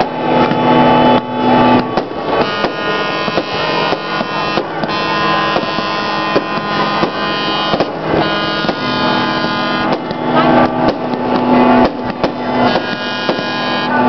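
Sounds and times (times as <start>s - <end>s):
fireworks banging and cracking: 0.0s - 14.0s.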